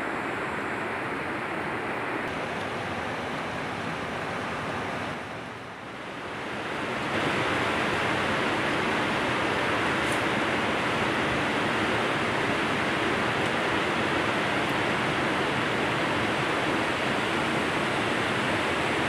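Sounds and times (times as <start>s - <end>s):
river flowing over rocks: 0.1s - 19.0s.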